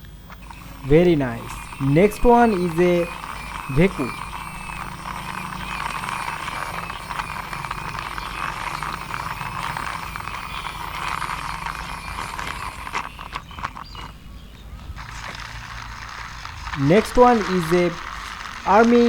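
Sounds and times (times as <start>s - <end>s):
plastic toy vehicles rattling: 0.0s - 19.0s.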